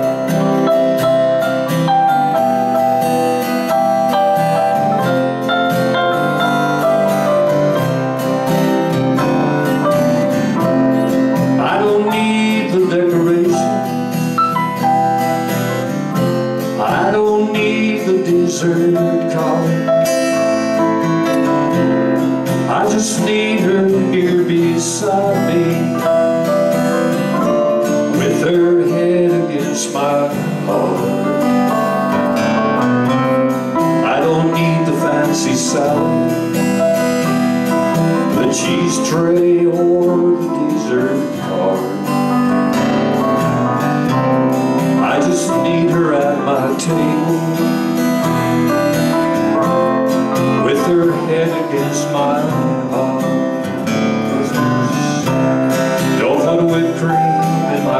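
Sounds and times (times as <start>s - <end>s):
man singing: 0.0s - 1.1s, 6.1s - 14.2s, 16.6s - 32.1s, 33.6s - 42.8s, 44.2s - 48.8s, 49.6s - 57.9s
electric guitar: 0.0s - 57.9s
keyboard: 0.0s - 57.9s
strummed acoustic guitar: 0.0s - 57.9s.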